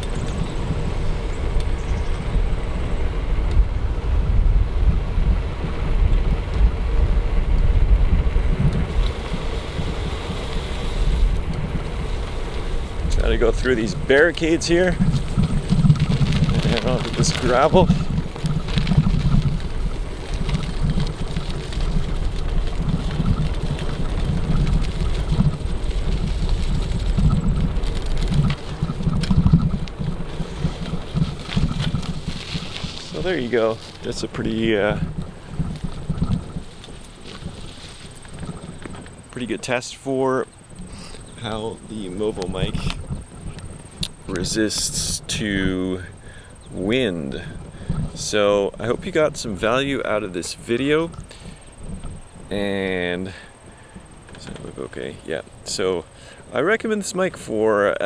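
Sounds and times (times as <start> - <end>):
bicycle tyres on gravel: 0.0 - 58.0
wind buffeting microphone: 0.0 - 58.0.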